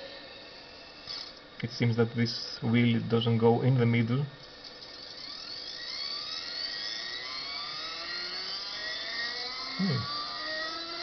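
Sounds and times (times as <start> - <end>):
stepper motor whine rising: 0.0 - 3.0, 4.4 - 11.0.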